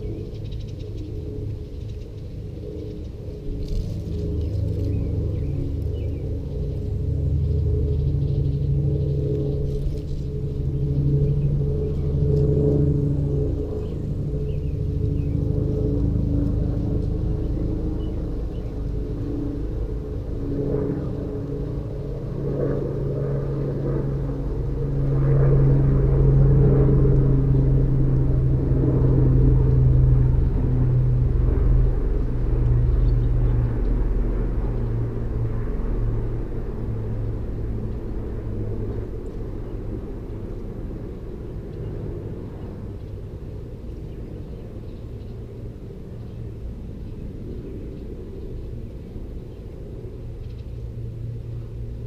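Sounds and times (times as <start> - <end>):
passing engine rumble: 0.0 - 52.0.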